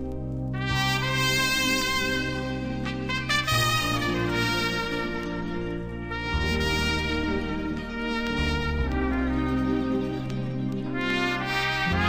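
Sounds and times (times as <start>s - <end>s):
steady bass line: 0.0s - 12.0s
trumpet playing long notes: 0.6s - 12.0s.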